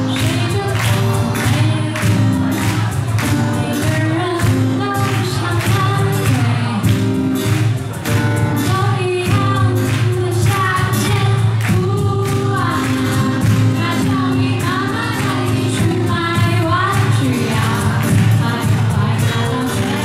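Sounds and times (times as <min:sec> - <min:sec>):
acoustic guitar: 0:00.0 - 0:20.0
woman singing pop song: 0:00.0 - 0:20.0.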